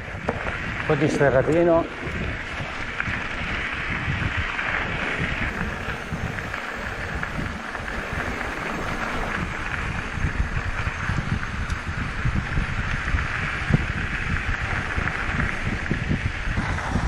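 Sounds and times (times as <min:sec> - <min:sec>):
bicycle tyres on gravel: 0:00.0 - 0:17.0
wind rushing over microphone: 0:00.0 - 0:17.0.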